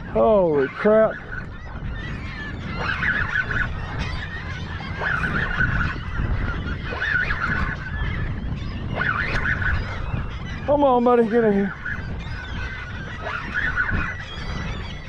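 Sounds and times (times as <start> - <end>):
seabirds squawking: 0.0 - 15.0
water noise: 0.0 - 15.0
wind: 0.0 - 15.0.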